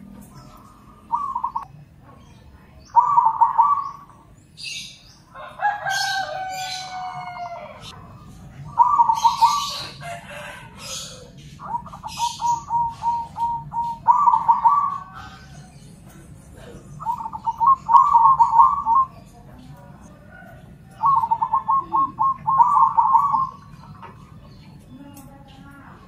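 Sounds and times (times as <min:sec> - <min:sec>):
doves cooing: 0:00.0 - 0:26.0
high bird chirps: 0:00.2 - 0:10.1, 0:10.8 - 0:16.1, 0:16.8 - 0:25.3.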